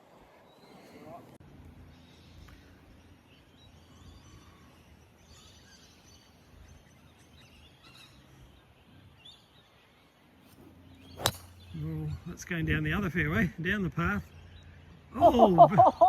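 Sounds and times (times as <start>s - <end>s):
faint outdoor ambience: 0.0s - 16.0s
distant bird chirps: 0.2s - 16.0s.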